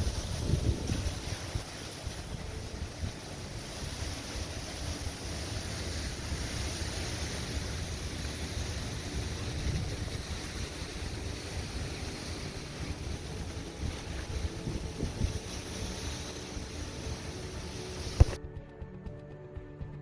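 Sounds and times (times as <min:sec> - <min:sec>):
strong wind buffeting microphone: 0:00.0 - 0:18.4.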